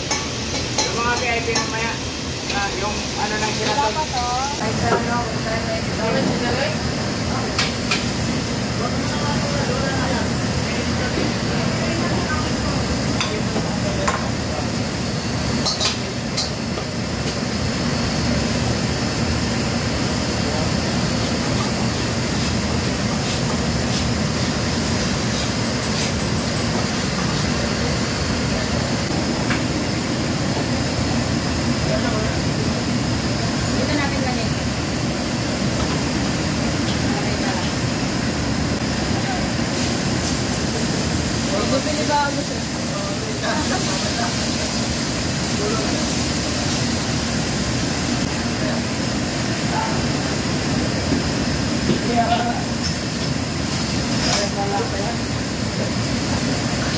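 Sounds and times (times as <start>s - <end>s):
exhaust hood fans running: 0.0s - 56.9s
wok burners roaring: 0.0s - 56.9s.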